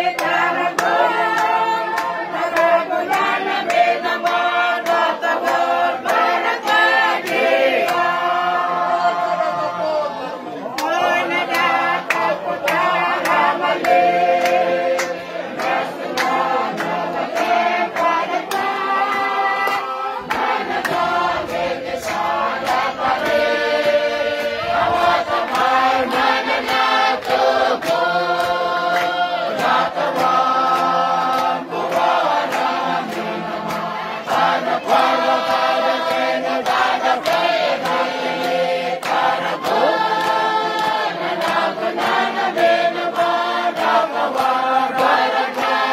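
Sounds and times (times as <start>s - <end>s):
choir singing in harmony: 0.0s - 45.9s.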